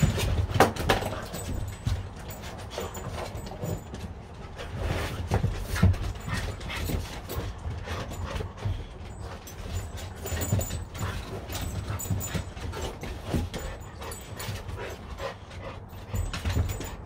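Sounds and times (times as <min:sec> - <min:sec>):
dog noises: 0:00.0 - 0:17.0
scuffs and knocks: 0:00.0 - 0:17.0.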